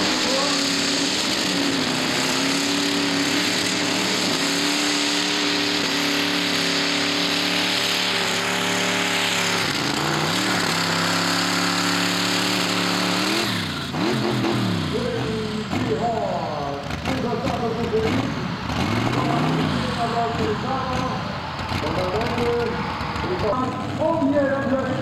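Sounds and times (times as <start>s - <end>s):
racing engine at high revs: 0.0s - 25.0s.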